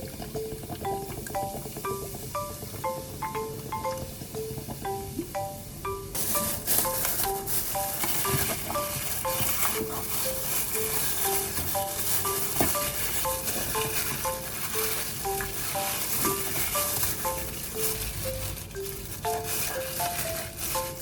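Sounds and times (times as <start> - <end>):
melodic background music: 0.0 - 21.0.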